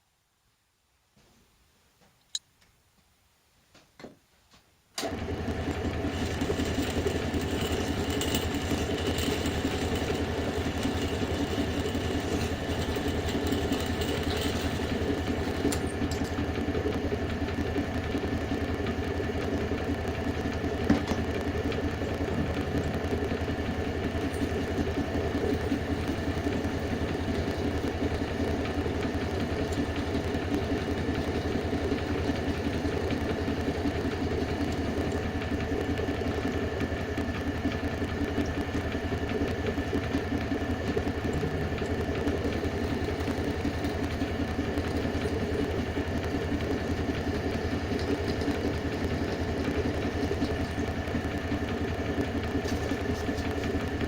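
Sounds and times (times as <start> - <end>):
electric motor humming: 5.2 - 54.0.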